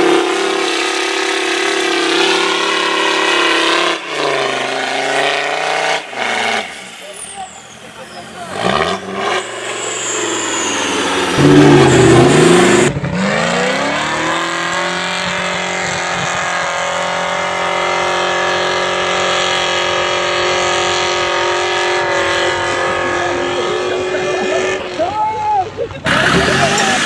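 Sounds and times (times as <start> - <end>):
off-road engine revving: 0.0 - 27.0.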